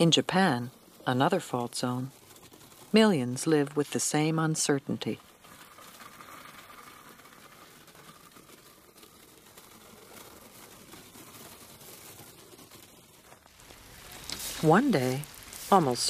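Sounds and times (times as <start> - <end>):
rake scratching through gravel: 0.0 - 16.0.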